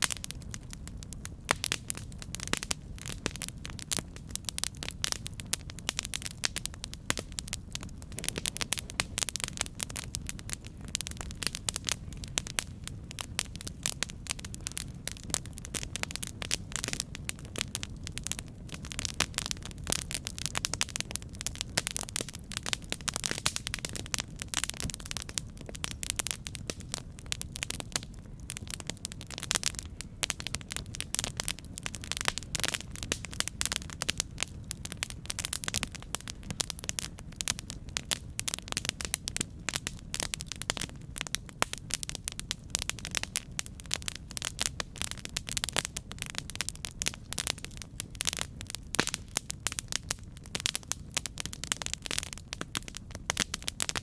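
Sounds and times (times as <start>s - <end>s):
low rumble of flames: 0.0s - 54.0s
wood crackling and popping: 0.0s - 54.0s.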